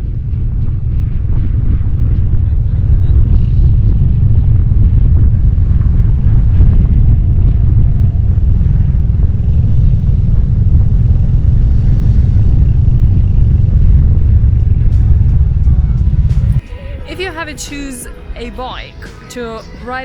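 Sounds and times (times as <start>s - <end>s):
motorcycle engine running: 0.0s - 18.8s
wind rumble on microphone: 0.0s - 19.0s.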